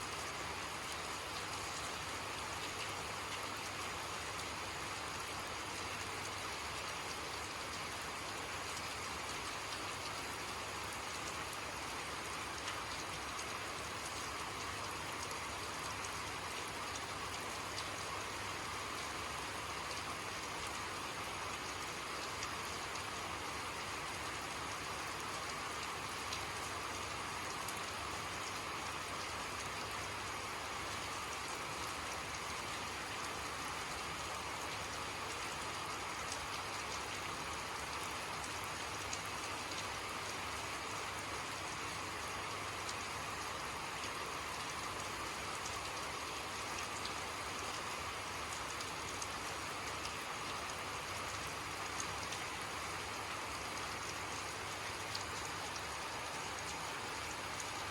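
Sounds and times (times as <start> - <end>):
steady rainfall: 0.0 - 57.9
raindrops ticking on a surface: 0.1 - 57.9.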